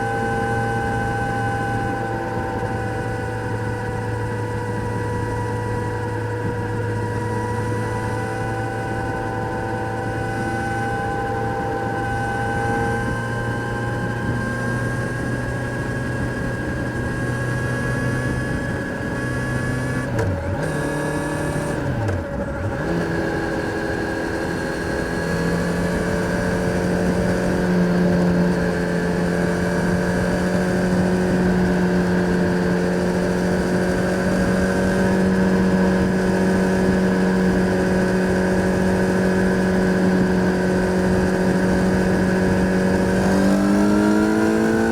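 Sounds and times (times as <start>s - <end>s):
motorcycle engine running: 0.0s - 44.9s
wind noise: 0.0s - 44.9s.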